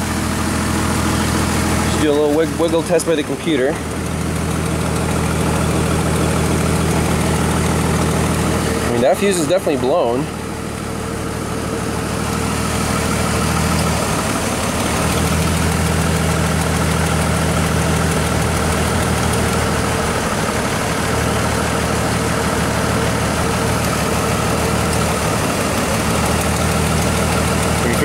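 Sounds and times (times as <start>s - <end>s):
car engine idling with misfire: 0.0s - 28.0s.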